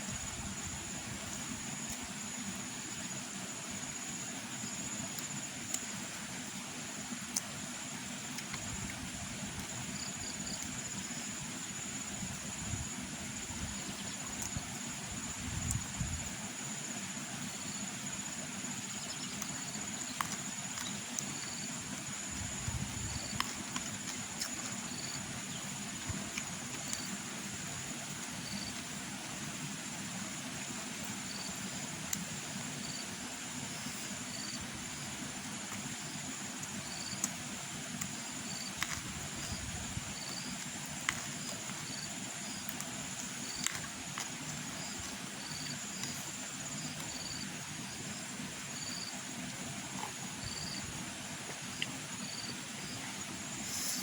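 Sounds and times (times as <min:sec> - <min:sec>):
short insect chirps: 0:07.1 - 0:29.0, 0:30.6 - 0:54.0.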